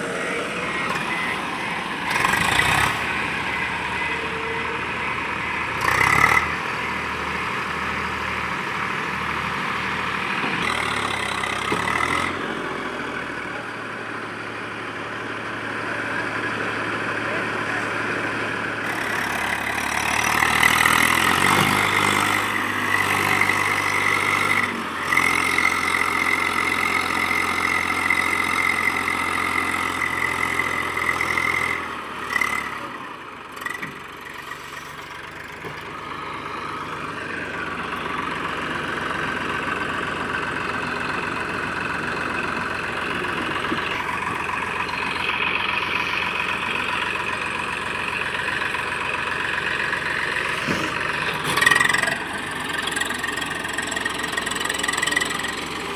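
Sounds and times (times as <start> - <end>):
high engine whine: 0.0 - 55.9
tractor diesel engine running: 0.0 - 55.9.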